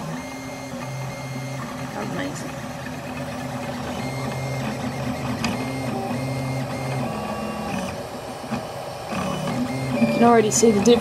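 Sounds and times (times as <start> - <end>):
printer stepper motors singing: 0.0 - 11.0.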